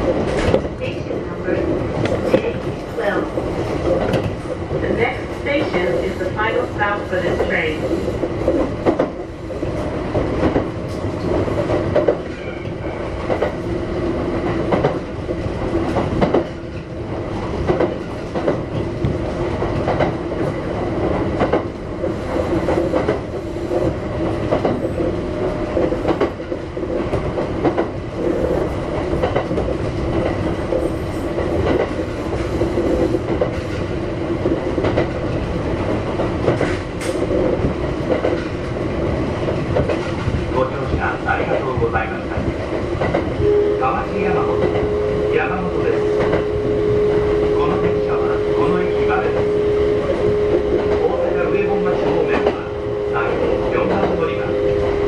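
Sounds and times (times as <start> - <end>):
train rumble and motor hum: 0.0 - 55.0.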